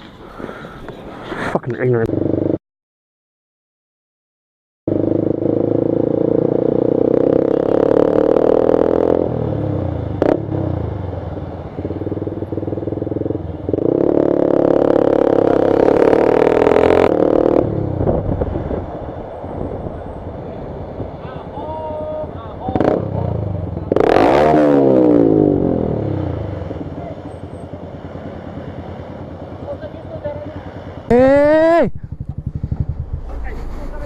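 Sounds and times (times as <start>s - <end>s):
motorcycle engine running: 1.9s - 2.6s, 4.9s - 20.8s, 21.6s - 34.0s.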